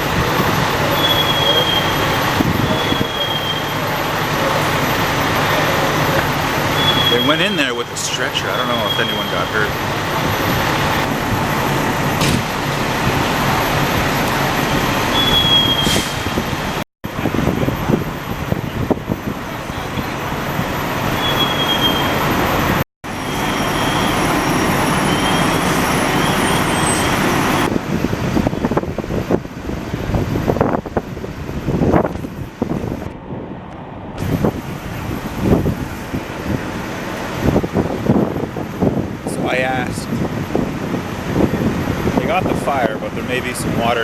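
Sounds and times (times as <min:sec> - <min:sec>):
large vehicle engines running: 0:00.0 - 0:44.0
traffic rumble and hiss: 0:00.0 - 0:44.0.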